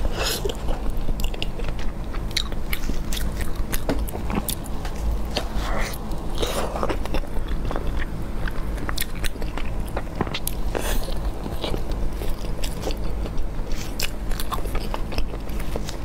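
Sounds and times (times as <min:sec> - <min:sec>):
biting and chewing: 0:00.0 - 0:16.0
low hum: 0:00.0 - 0:16.0.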